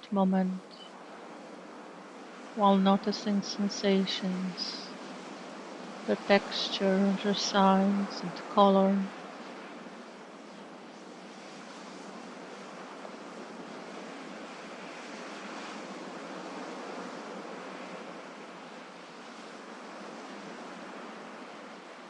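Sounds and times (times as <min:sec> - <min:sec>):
sea waves washing onto shore: 0:00.4 - 0:22.0.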